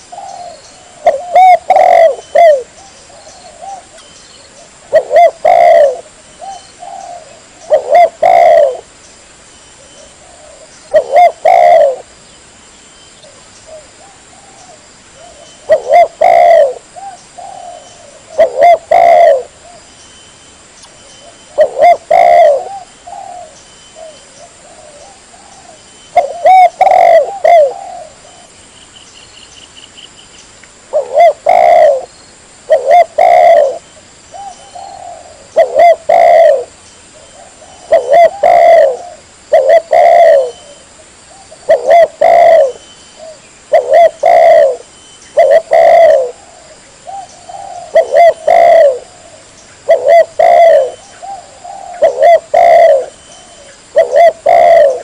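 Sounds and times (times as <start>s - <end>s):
dove cooing: 0.0s - 8.9s, 9.9s - 12.1s, 13.7s - 19.8s, 21.2s - 28.5s, 30.9s - 32.1s, 32.7s - 55.0s.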